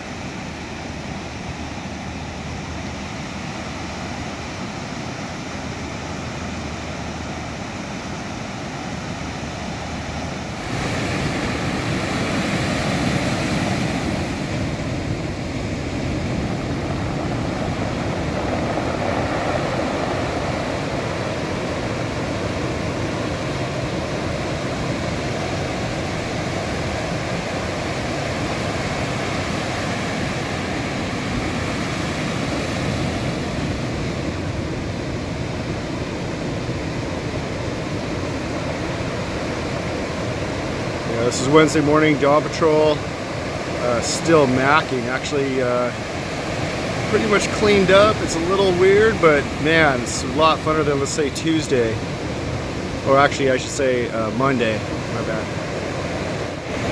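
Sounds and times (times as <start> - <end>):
breaking surf: 7.3 - 56.9.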